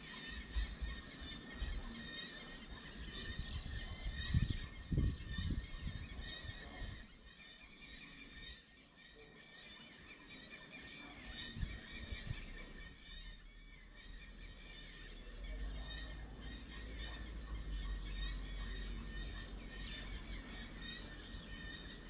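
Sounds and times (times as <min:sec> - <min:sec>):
birds chirping chorus: 0:00.0 - 0:22.0.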